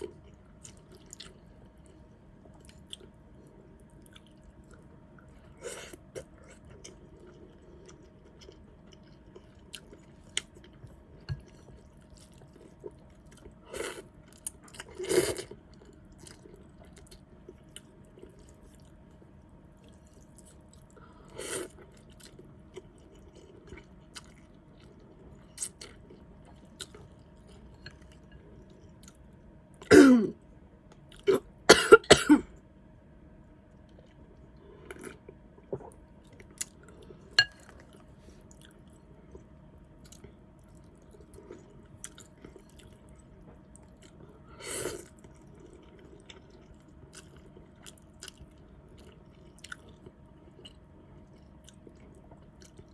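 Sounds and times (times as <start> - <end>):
soft chewing: 0.0 - 29.9, 33.6 - 52.9.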